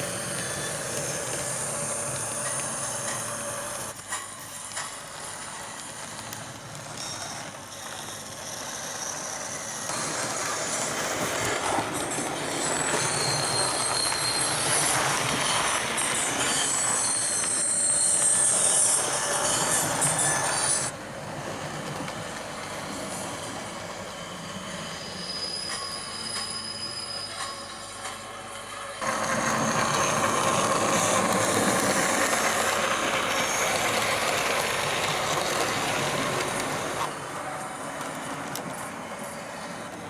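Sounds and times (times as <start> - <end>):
thin high squeals: 0.0 - 4.7, 7.0 - 20.9, 23.1 - 37.1
digital train sounds from small speaker: 0.0 - 40.0.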